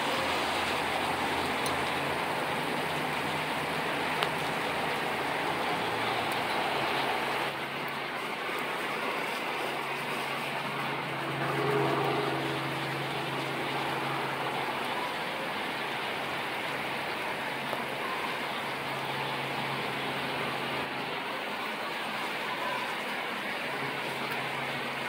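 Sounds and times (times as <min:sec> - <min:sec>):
low engine hum: 0:00.0 - 0:21.1
heavy rain falling: 0:00.0 - 0:25.0.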